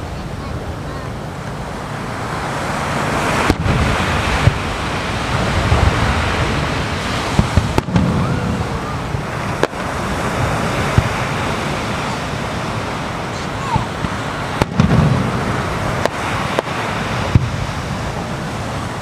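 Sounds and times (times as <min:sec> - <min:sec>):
fireworks bursting: 0:00.0 - 0:19.0
waves breaking on shore: 0:00.0 - 0:19.0.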